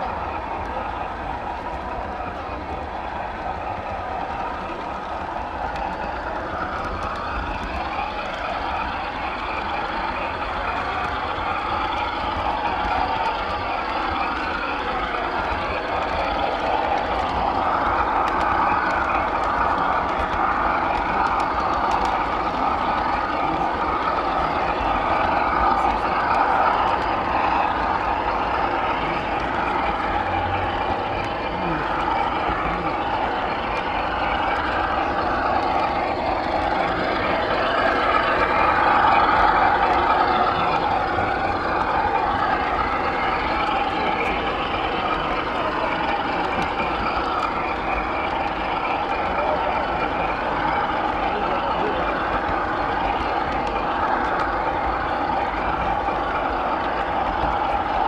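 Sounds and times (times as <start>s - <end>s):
model train motor whirring: 2.4s - 58.0s.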